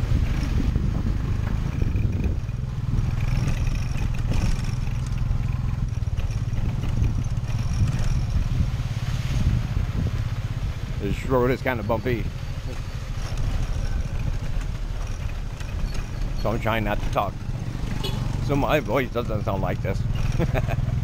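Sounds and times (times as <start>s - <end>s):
carriage rattling over bumps: 0.0s - 8.8s, 11.6s - 21.0s
motorbike engine running: 0.0s - 21.0s.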